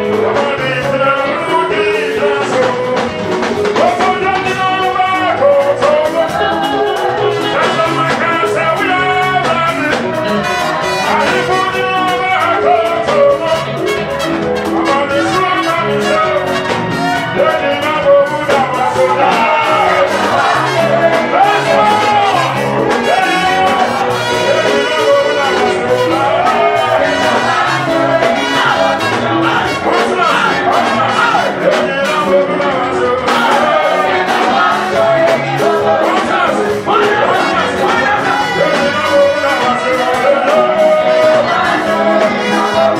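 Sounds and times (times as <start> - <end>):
band playing with steady beat: 0.0 - 42.9
man singing into a microphone: 0.0 - 42.9.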